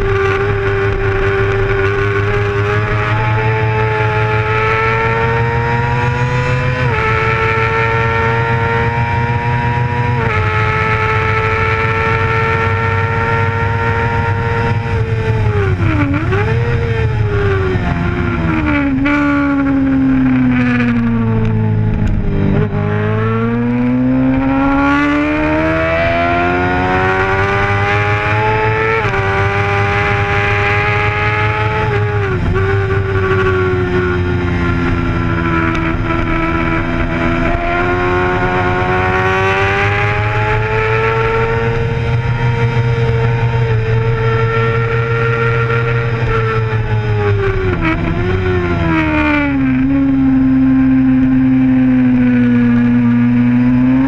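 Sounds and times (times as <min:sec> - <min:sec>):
motorbike engine at high revs: 0:00.0 - 0:54.0.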